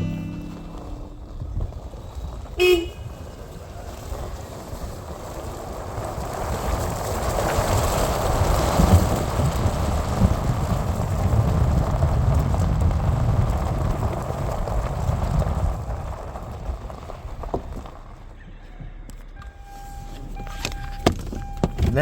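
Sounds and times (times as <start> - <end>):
vehicle driving off: 0.0 - 22.0.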